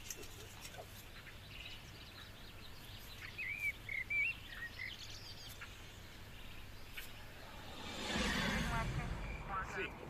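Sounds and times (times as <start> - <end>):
faint outdoor background noise: 0.0 - 10.0
songbird chirping: 0.0 - 10.0.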